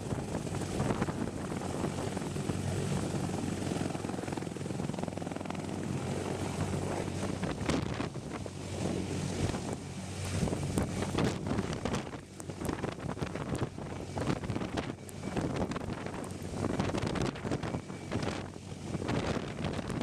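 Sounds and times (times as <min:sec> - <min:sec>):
helicopter rotor and engine drone: 0:00.0 - 0:20.0
wind buffeting microphone: 0:00.0 - 0:20.0.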